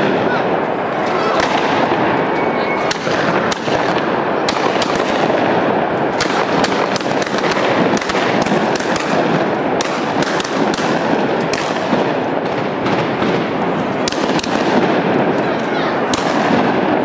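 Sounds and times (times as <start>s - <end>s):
firecrackers crackling: 0.0s - 17.0s
sharp firecracker cracks: 1.0s - 17.0s.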